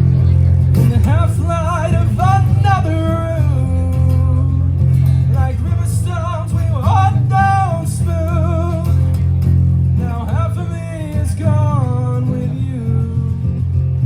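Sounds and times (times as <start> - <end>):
acoustic guitar playing slow song: 0.0 - 14.0.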